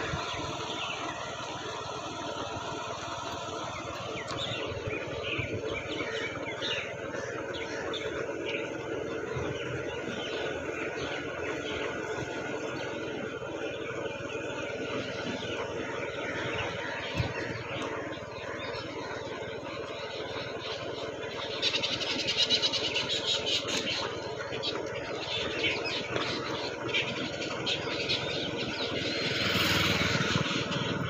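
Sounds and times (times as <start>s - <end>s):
engine hum: 0.0s - 31.0s.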